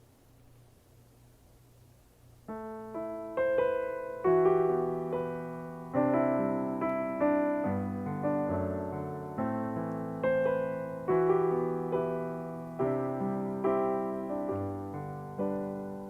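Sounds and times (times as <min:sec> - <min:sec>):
piano chords: 0:02.5 - 0:16.0.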